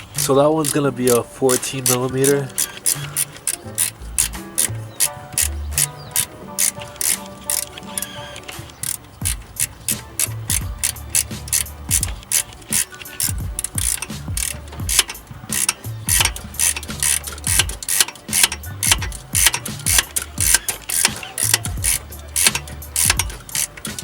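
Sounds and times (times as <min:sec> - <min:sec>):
hip-hop beat: 0:00.0 - 0:24.0
ratchet wrench clicking: 0:00.0 - 0:24.0.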